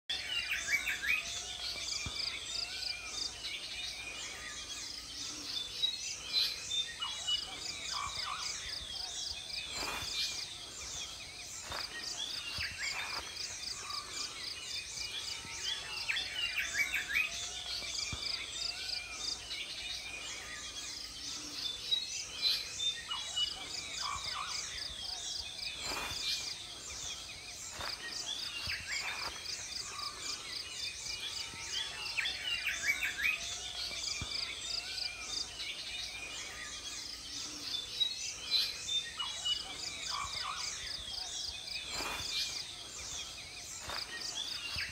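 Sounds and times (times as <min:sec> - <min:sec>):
birds chirping and calling: 0:00.1 - 0:44.9.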